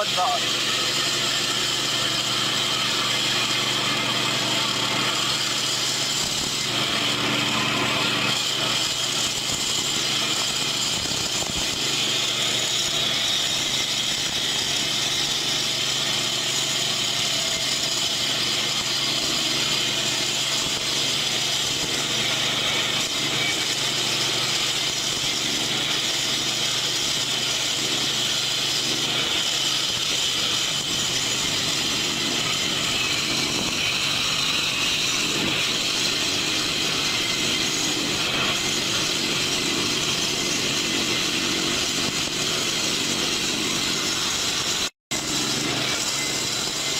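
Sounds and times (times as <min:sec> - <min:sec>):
concrete saw cutting concrete: 0:00.0 - 0:46.9.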